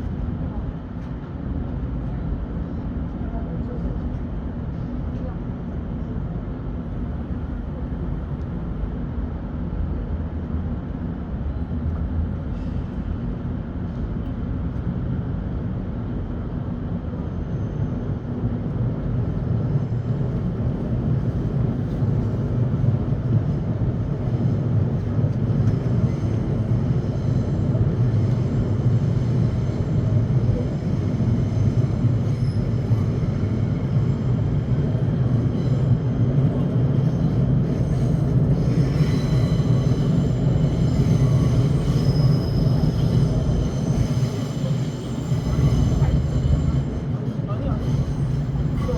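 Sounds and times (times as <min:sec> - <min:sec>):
train rumbling: 0:00.0 - 0:48.9.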